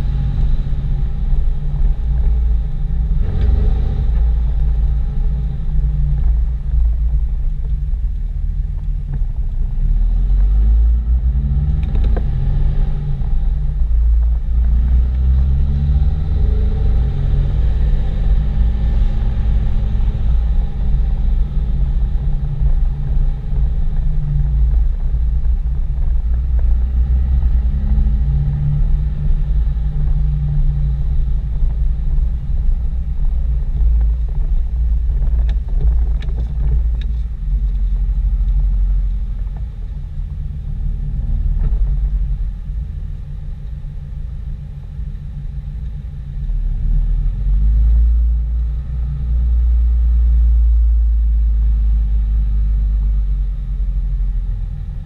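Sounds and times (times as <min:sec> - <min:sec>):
diesel engine rumble from inside cab: 0:00.0 - 0:55.0.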